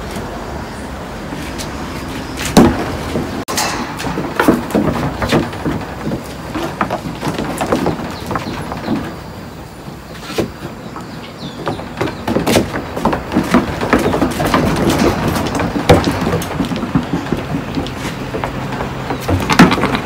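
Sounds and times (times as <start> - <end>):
goat hooves on wooden planks: 0.0 - 20.0.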